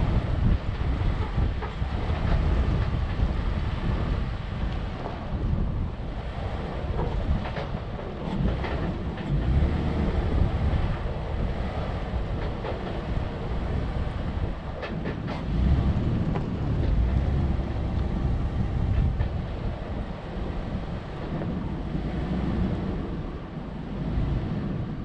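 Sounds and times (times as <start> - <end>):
vehicle rumble: 0.0 - 25.0
wind buffeting microphone: 0.0 - 25.0.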